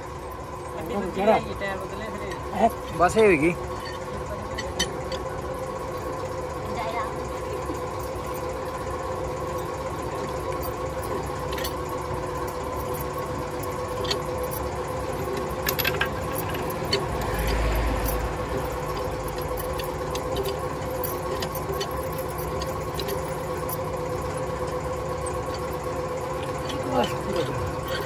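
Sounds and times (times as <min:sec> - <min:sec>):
steady machine hum: 0:00.0 - 0:28.0
wheel brace clinking on wheel nuts: 0:02.1 - 0:06.0, 0:09.5 - 0:28.0.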